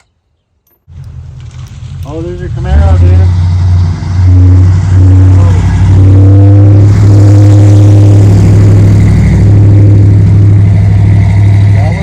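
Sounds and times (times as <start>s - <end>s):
car engine deep rumble: 0.9s - 12.0s.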